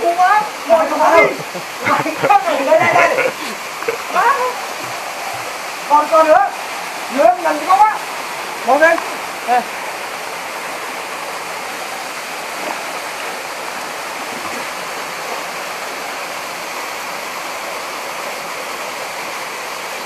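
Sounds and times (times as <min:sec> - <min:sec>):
waterfall rushing into pool: 0:00.0 - 0:20.0.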